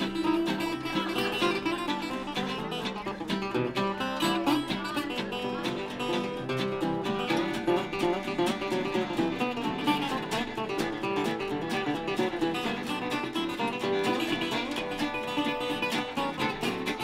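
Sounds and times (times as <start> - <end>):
acoustic rhythm guitar strumming: 0.0 - 17.0
fiddle: 0.0 - 17.0
resonator guitar: 0.0 - 17.0.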